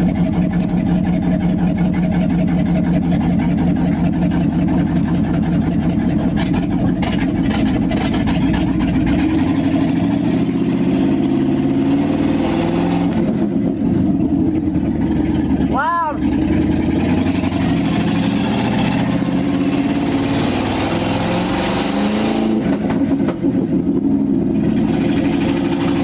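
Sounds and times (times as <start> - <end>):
old truck engine running: 0.0 - 26.0.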